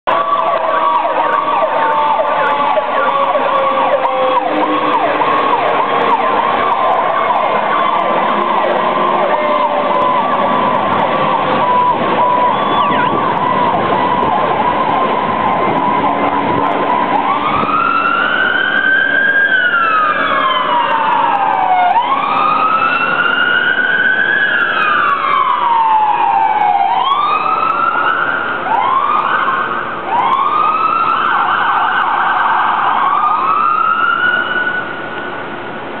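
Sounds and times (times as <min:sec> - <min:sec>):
fire engine sirens: 0:00.0 - 0:36.0.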